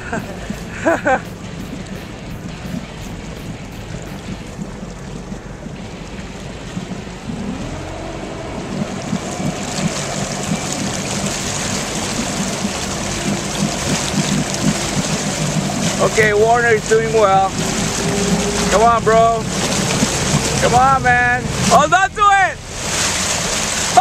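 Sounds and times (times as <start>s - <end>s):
motorboat engine revving: 0.0s - 24.0s
rushing water: 0.0s - 24.0s
wind noise: 0.0s - 24.0s.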